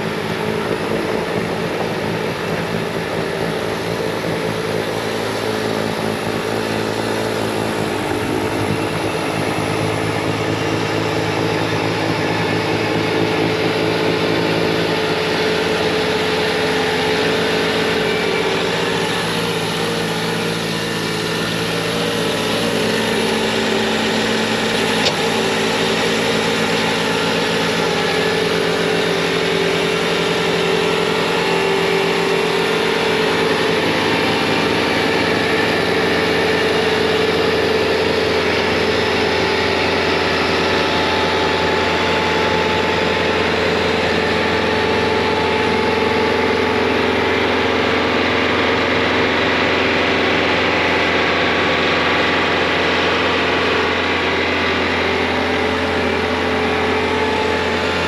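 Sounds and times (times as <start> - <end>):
diesel engine at full throttle: 0.0 - 58.0
snowblower through wet snow: 0.0 - 58.0.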